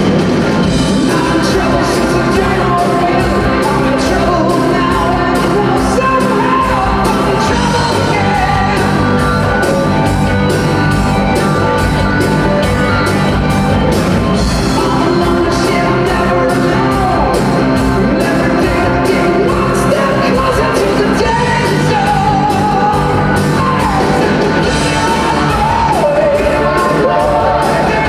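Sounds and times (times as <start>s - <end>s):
rock band playing: 0.0s - 28.0s
steady drum beat: 0.0s - 28.0s
person singing: 0.8s - 10.2s, 14.4s - 28.0s.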